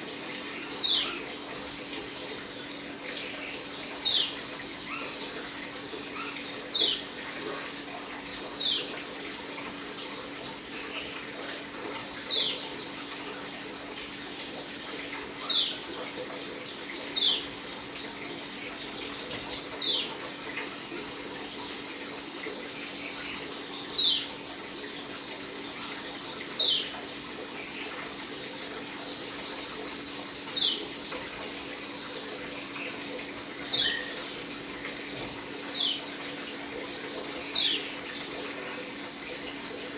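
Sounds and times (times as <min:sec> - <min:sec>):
steady water-like hiss: 0:00.0 - 0:39.9.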